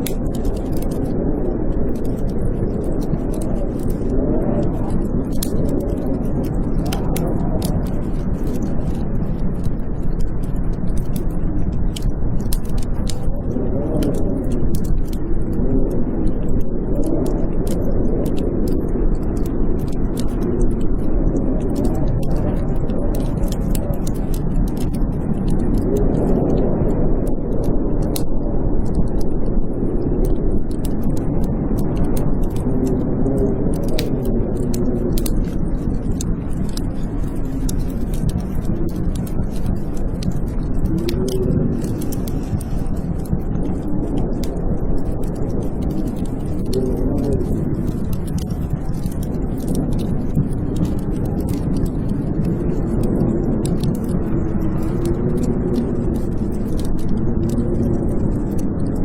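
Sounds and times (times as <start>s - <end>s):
blizzard wind rumble: 0.0s - 59.0s
wood fire crackling and popping: 0.0s - 59.0s.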